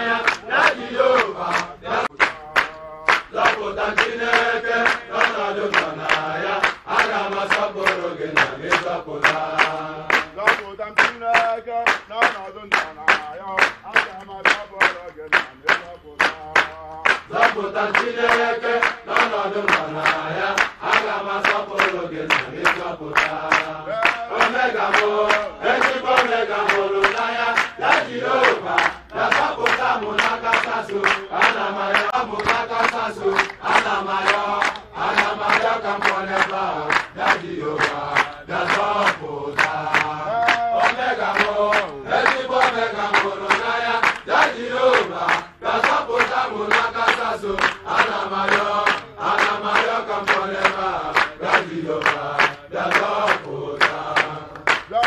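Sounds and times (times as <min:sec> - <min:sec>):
men singing in unison: 0:00.0 - 0:55.0
hands clapping: 0:00.1 - 0:55.0.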